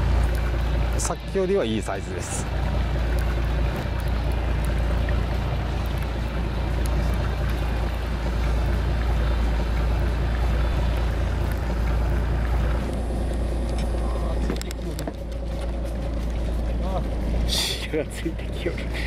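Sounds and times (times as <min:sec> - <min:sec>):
boat engine rumble: 0:00.0 - 0:19.0
wind and water hiss: 0:00.0 - 0:19.0.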